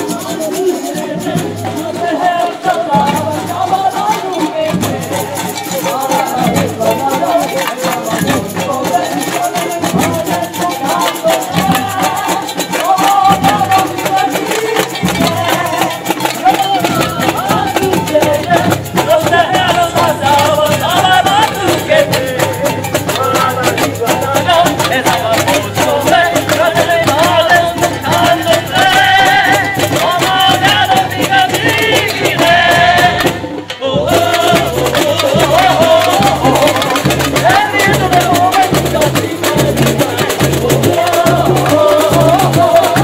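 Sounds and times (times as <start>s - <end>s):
woman singing over speakers: 0.0s - 22.5s, 23.2s - 43.0s
samba drums playing: 0.0s - 43.0s
shakers: 0.0s - 43.0s.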